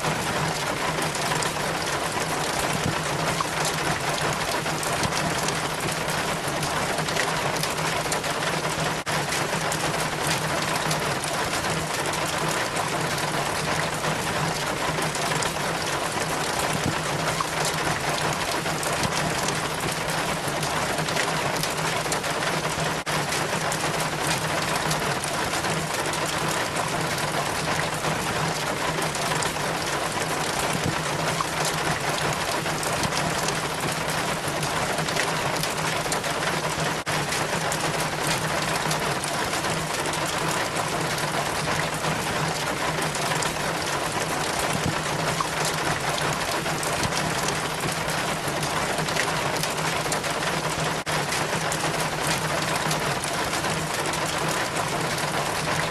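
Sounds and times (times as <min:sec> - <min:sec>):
water trickling down rain chain: 0:00.0 - 0:55.9.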